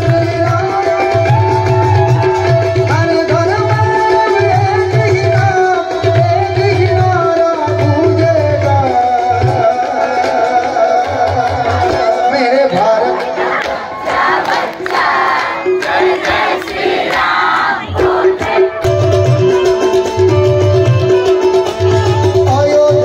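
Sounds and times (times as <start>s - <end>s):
hand drum beat: 0.0s - 23.0s.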